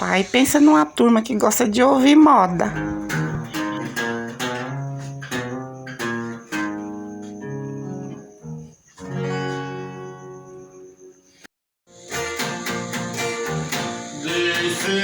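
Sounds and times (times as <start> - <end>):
acoustic guitar strummed and picked: 1.5 - 11.2, 11.9 - 15.0.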